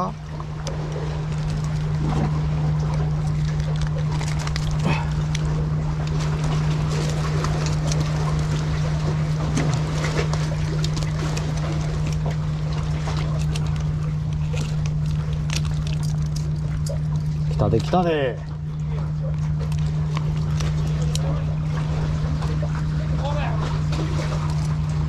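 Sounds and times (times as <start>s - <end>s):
low mechanical engine hum: 0.0s - 25.0s.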